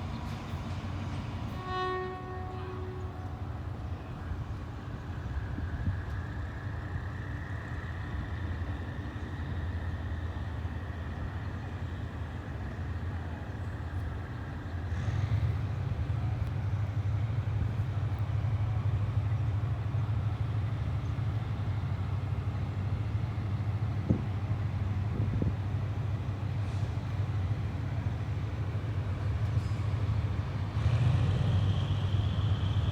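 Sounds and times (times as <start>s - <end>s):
locomotive engine drone: 0.0s - 32.9s.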